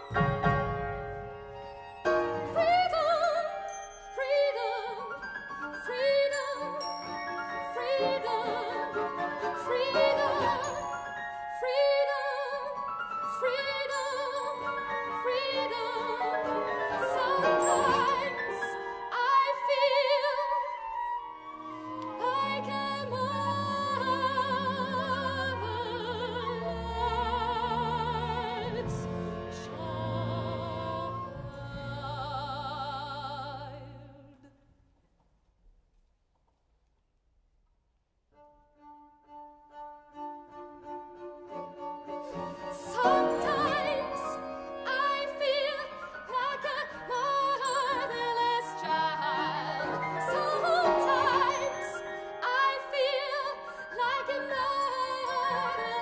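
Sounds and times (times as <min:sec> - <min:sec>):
strings and winds ensemble: 0:00.0 - 0:34.4, 0:38.6 - 0:56.0
soprano singing with vibrato: 0:01.8 - 0:34.6, 0:42.2 - 0:56.0.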